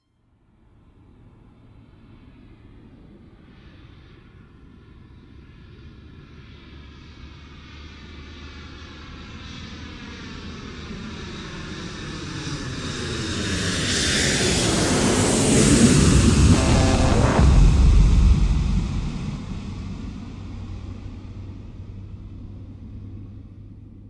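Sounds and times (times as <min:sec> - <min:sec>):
airplane engines approaching: 0:01.3 - 0:24.0.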